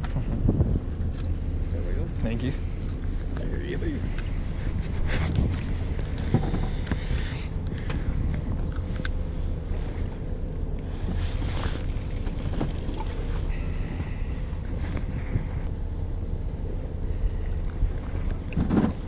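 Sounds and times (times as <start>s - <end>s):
boat engine humming: 0.0s - 19.0s
wind buffeting microphone: 0.0s - 19.0s.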